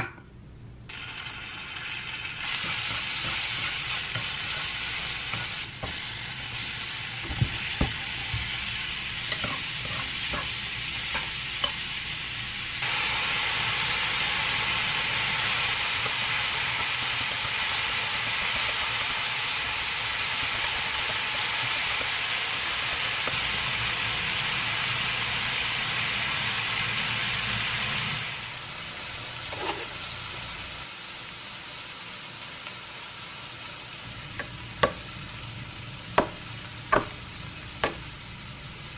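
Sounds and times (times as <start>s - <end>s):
garlic sizzling in a frying pan: 0.9s - 38.9s.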